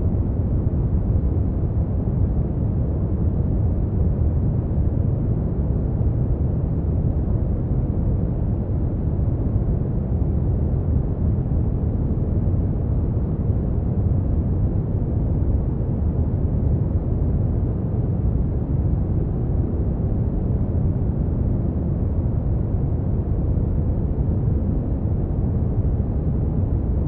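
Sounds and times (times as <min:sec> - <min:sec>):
deep rumbling brown noise: 0:00.0 - 0:27.0.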